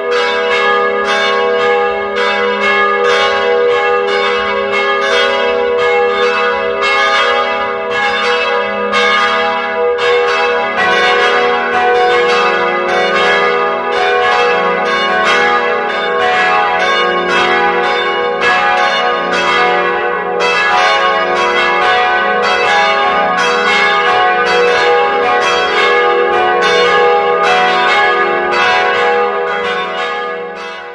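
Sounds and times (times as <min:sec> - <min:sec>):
church bells pealing: 0:00.0 - 0:30.9.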